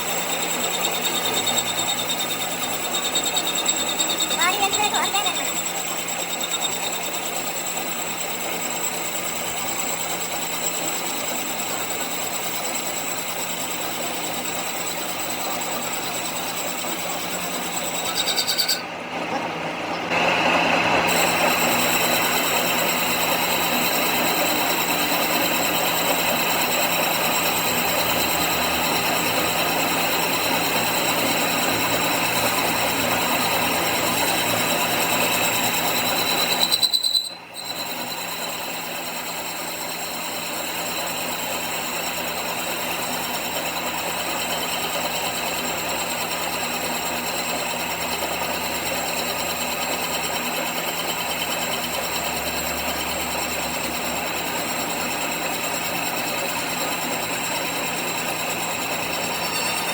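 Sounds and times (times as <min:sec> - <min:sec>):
machine tool whirring with whine: 0:00.0 - 0:59.9.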